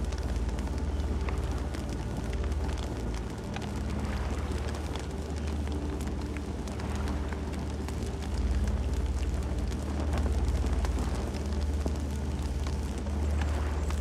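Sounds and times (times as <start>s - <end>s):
burning wood crackling: 0.0s - 14.0s
low rumble of flames: 0.0s - 14.0s.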